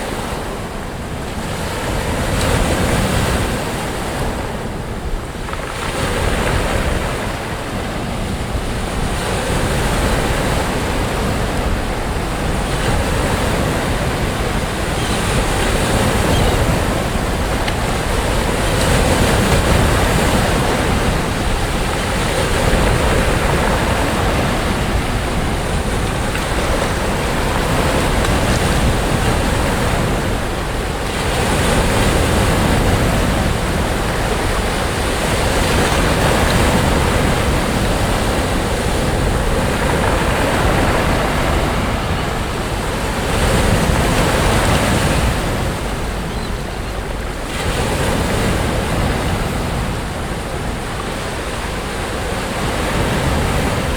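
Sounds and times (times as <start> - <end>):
sea waves breaking on beach: 0.0 - 53.9
wind buffeting microphone: 0.0 - 53.9.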